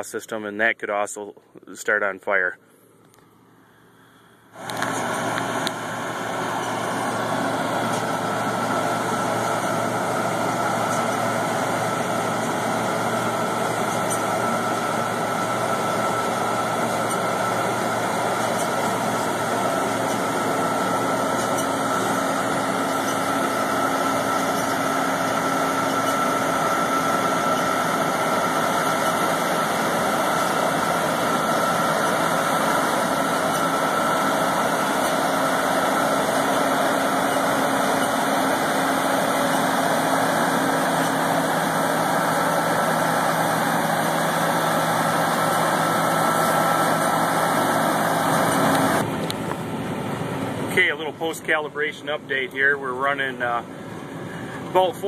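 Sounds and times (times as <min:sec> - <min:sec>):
faint steady whine: 0:00.0 - 0:55.0
combine harvester running: 0:02.6 - 0:55.0.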